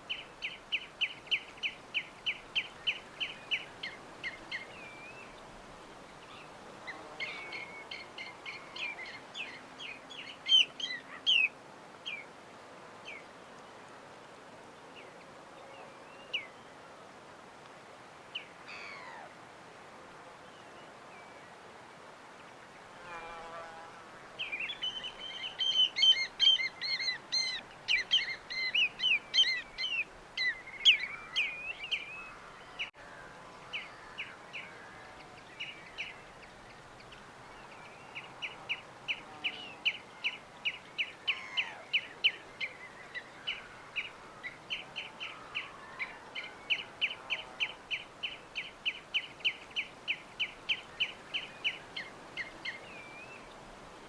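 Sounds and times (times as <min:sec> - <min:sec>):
songbirds chirping and trilling: 0:00.0 - 0:17.0, 0:22.3 - 0:54.0.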